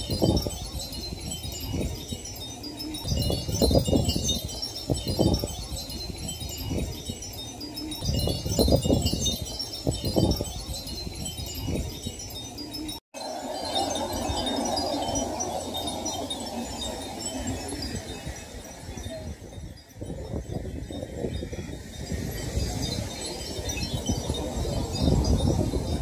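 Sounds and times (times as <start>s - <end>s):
glass pieces tinkling: 0.0s - 26.0s
wind gusts on microphone: 0.0s - 26.0s.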